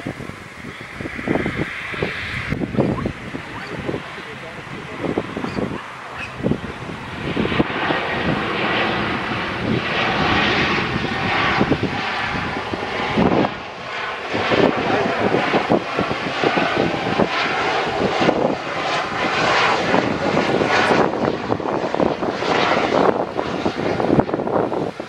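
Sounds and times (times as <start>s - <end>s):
jet airliner rushing noise: 0.0s - 25.0s.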